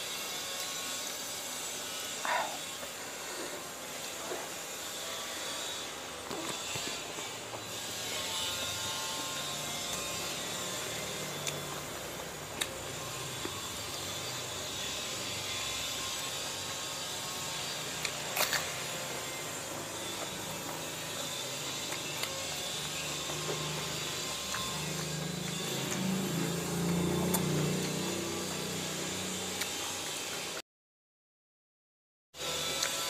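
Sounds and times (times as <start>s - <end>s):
rushing renovation noise: 0.8s - 30.6s.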